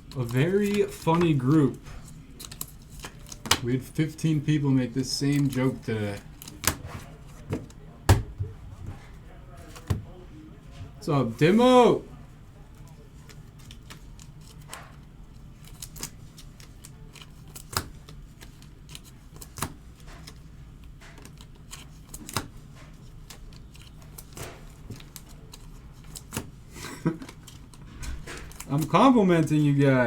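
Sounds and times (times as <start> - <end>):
cards and packaging clicking: 0.0 - 7.8, 12.8 - 30.0.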